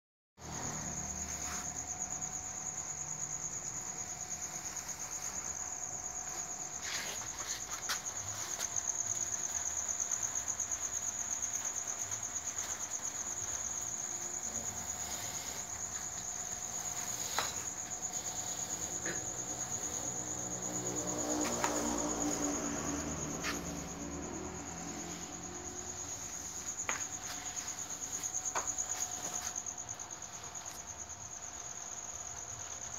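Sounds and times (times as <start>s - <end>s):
insects trilling: 0.4s - 32.9s.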